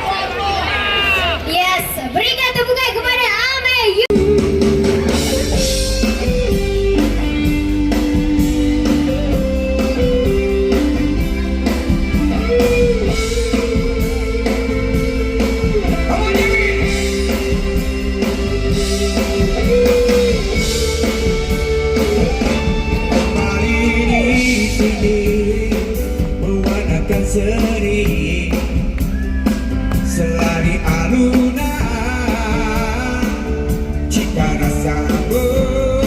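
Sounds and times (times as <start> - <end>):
bass guitar: 4.1 - 36.0
lead guitar melody: 4.1 - 36.0
steady drum beat: 4.1 - 36.0.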